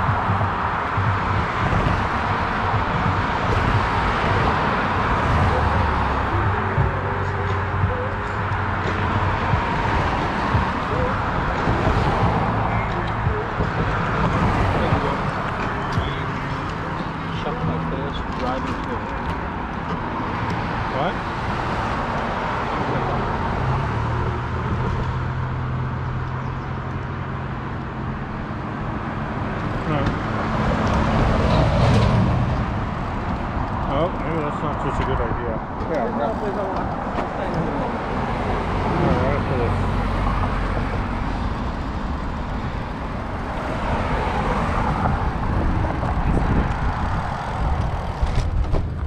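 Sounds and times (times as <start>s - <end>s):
car engine hum: 0.0s - 49.0s
road and tyre noise: 0.0s - 49.0s.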